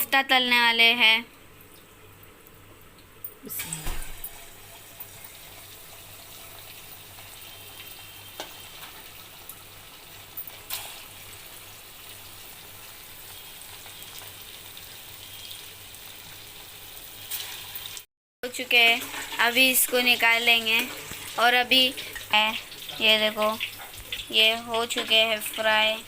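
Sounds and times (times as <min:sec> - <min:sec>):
food deep-frying in oil: 0:00.0 - 0:26.0.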